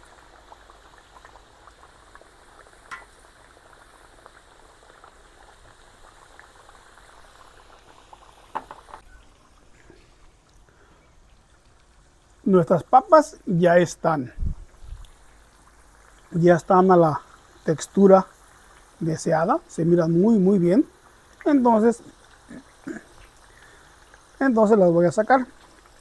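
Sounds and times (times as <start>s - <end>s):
potatoes frying in bubbling oil: 0.0s - 26.0s.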